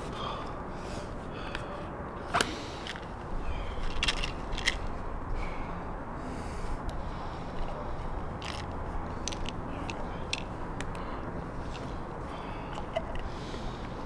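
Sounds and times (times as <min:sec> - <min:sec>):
low room rumble: 0:00.0 - 0:14.0.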